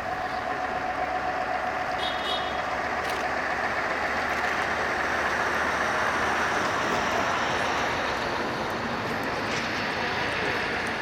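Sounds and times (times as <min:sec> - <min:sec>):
heavy truck driving past: 0:00.0 - 0:11.0.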